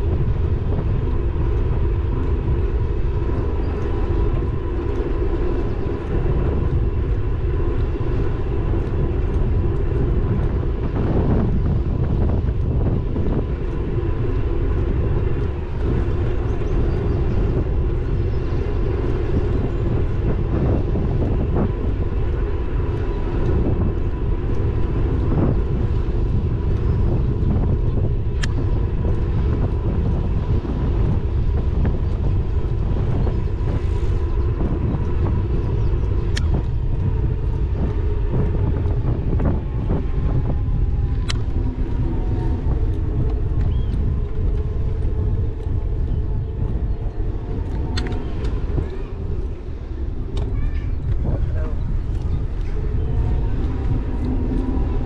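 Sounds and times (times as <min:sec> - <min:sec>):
faint steady whine: 0:00.0 - 0:55.0
rumble of tyres and wind: 0:00.0 - 0:55.0.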